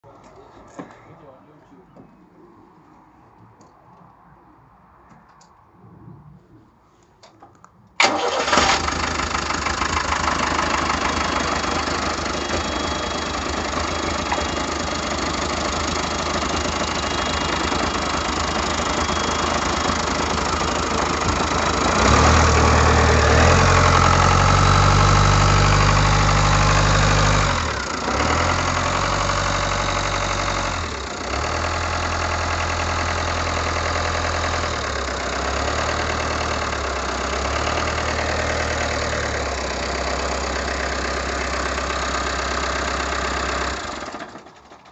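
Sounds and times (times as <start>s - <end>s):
van engine starting and running: 8.0s - 44.9s.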